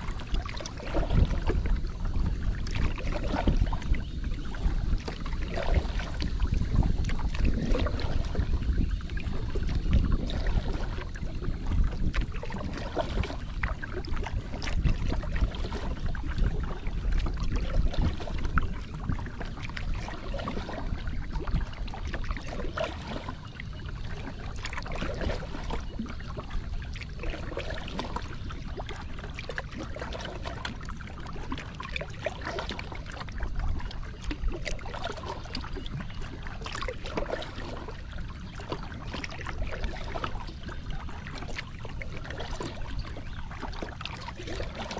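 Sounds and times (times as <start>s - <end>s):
water splashing against kayak: 0.0s - 44.9s.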